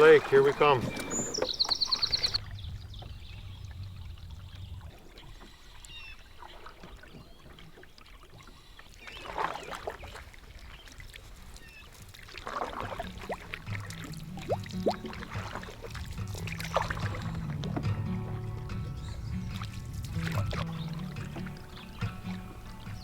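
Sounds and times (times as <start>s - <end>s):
paddle splashing in water: 0.0s - 23.0s
water lapping: 0.0s - 23.0s.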